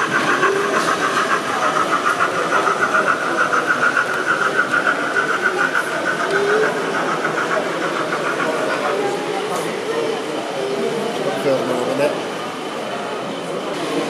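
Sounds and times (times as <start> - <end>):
model train motor running: 0.0 - 14.0.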